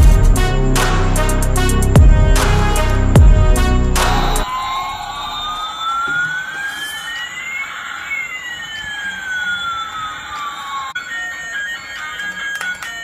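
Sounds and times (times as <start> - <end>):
electronic gliding siren tones: 2.4 - 13.0.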